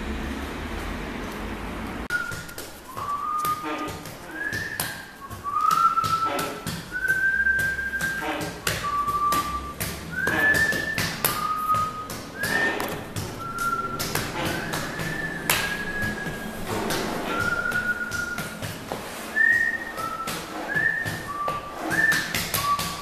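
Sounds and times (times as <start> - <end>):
whistled notes: 2.1 - 23.0.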